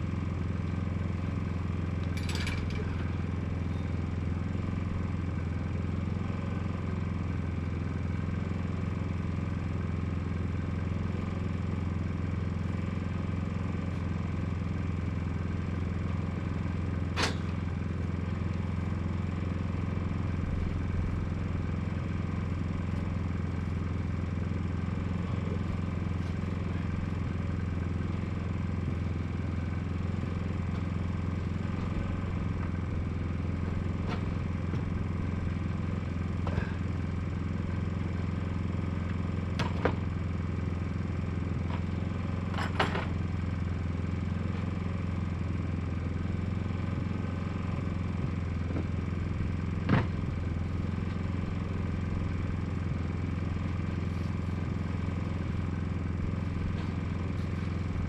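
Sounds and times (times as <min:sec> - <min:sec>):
engine humming steadily: 0:00.0 - 0:58.0.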